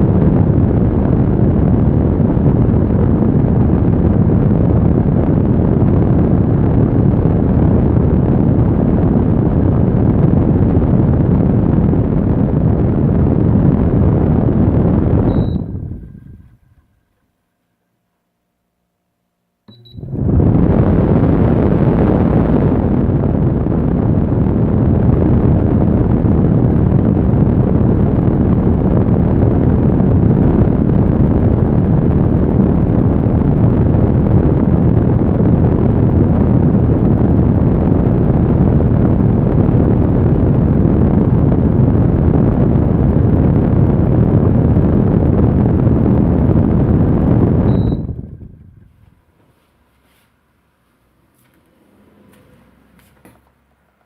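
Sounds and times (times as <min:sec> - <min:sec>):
fan blowing air: 0:00.0 - 0:18.0, 0:19.7 - 0:54.0.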